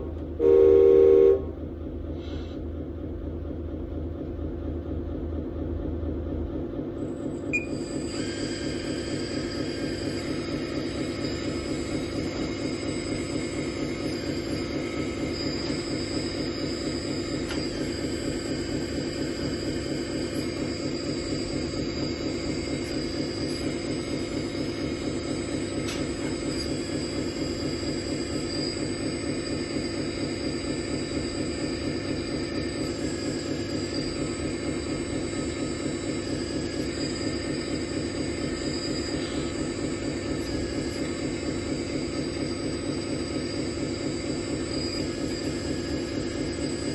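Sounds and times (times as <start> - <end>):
hydraulic pump hum and whine: 0.0 - 46.9.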